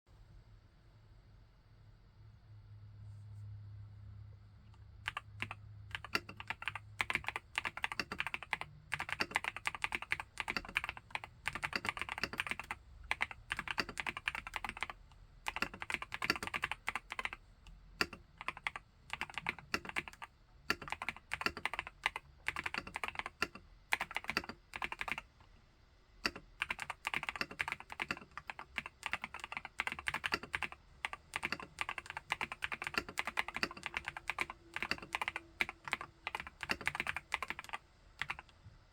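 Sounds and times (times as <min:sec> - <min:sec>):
mechanical keyboard typing: 0:05.0 - 0:17.4, 0:18.0 - 0:25.3, 0:26.2 - 0:38.5.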